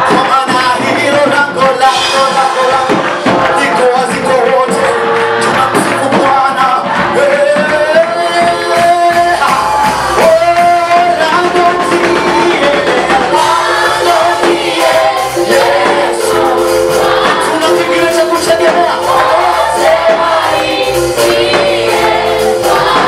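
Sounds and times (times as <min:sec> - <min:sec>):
band with a steady beat: 0:00.0 - 0:23.0
voices singing: 0:00.0 - 0:23.0.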